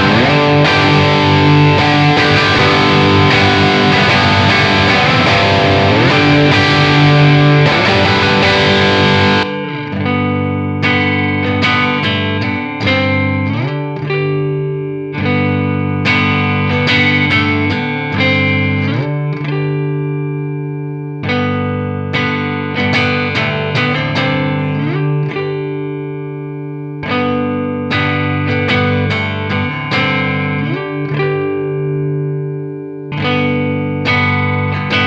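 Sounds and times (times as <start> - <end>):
clean picked guitar chords: 0.0 - 35.0
overdriven electric guitar: 0.0 - 35.0.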